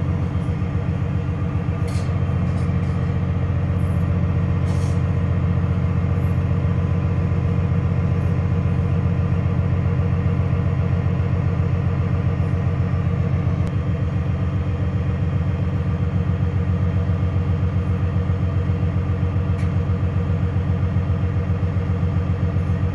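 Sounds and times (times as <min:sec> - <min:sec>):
low machinery drone: 0:00.0 - 0:22.9.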